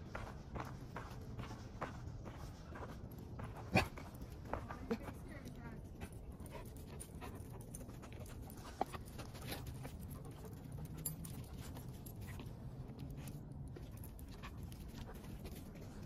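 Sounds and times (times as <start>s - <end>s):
dog panting: 1.0s - 16.0s.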